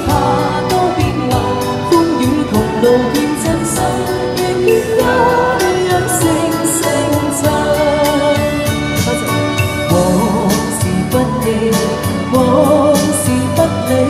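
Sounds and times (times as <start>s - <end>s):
backing track with steady beat: 0.0s - 14.0s
woman singing into microphone: 0.0s - 14.0s.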